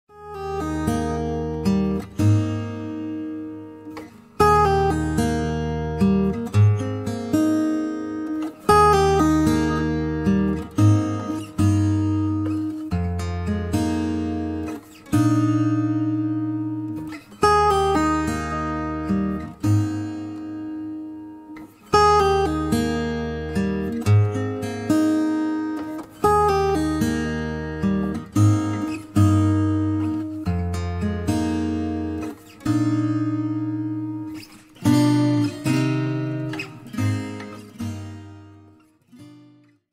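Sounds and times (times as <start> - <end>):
acoustic guitar strumming chords: 0.1 - 39.8.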